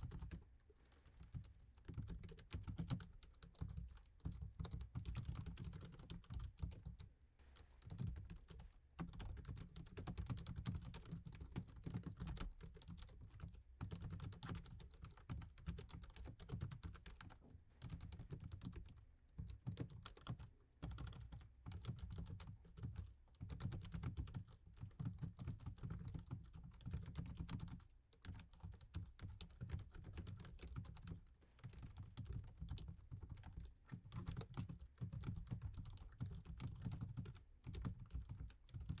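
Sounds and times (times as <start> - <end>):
typing on laptop keyboard: 0.0 - 39.0.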